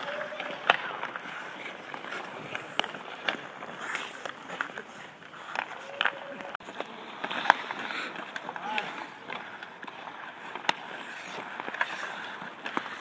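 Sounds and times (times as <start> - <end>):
hockey sticks clacking on pucks: 0.0 - 13.0
skate blades scraping ice: 0.0 - 13.0.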